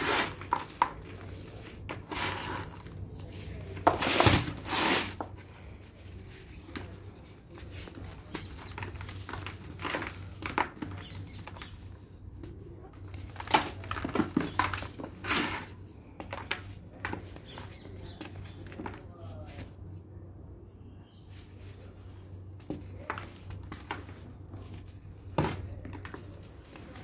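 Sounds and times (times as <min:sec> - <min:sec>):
hands crushing dry cement lumps: 0:00.0 - 0:19.9, 0:22.3 - 0:27.0.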